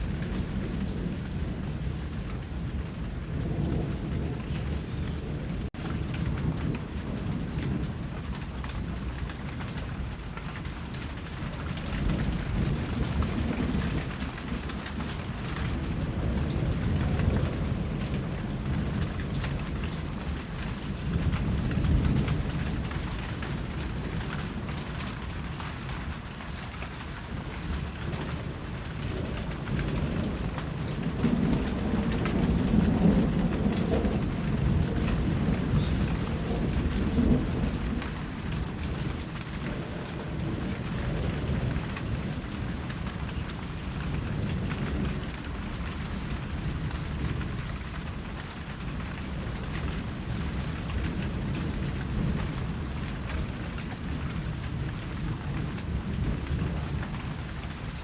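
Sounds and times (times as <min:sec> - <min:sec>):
low roll of thunder: 0:00.0 - 0:58.0
steady rain falling: 0:00.0 - 0:58.0.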